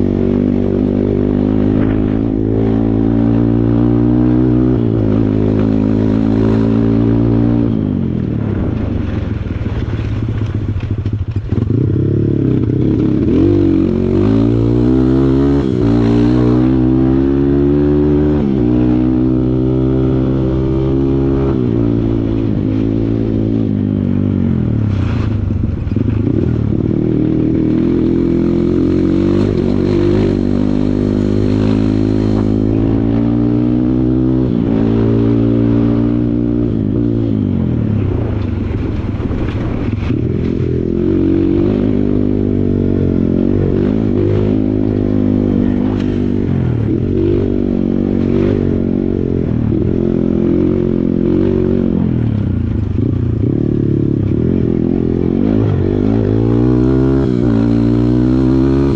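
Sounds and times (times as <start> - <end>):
dirt bike engine revving: 0.0 - 10.0, 11.1 - 58.9.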